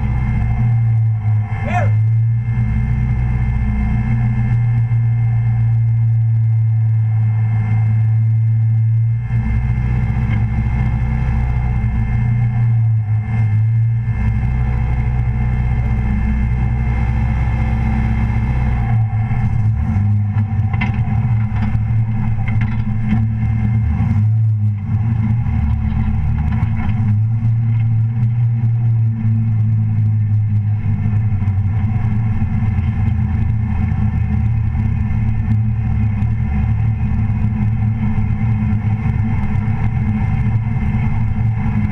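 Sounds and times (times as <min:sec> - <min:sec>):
race car engine droning: 0:00.0 - 0:41.9.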